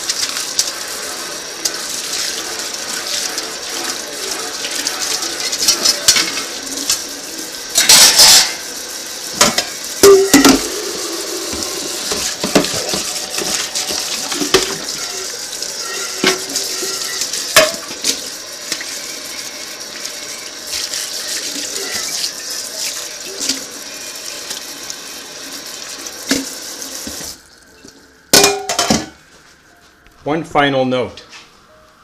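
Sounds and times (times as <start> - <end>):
faucet running into a sink: 0.0 - 28.0.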